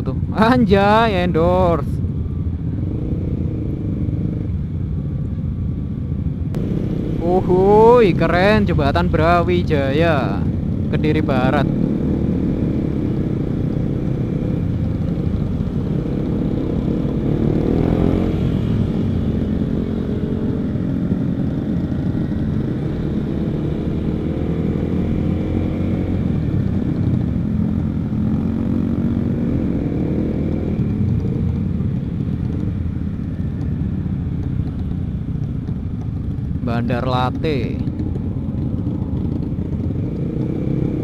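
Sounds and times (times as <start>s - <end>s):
motorcycle engine accelerating: 6.5s - 9.4s, 10.4s - 41.0s.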